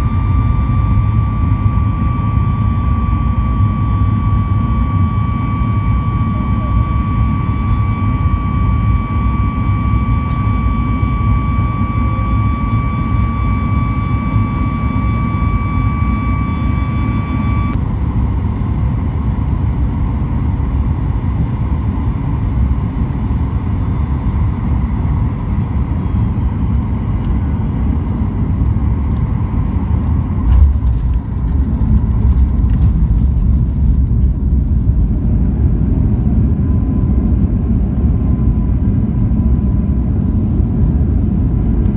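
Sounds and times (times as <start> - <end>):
engine and airflow rumble: 0.0 - 41.9
steady whine: 0.0 - 41.9.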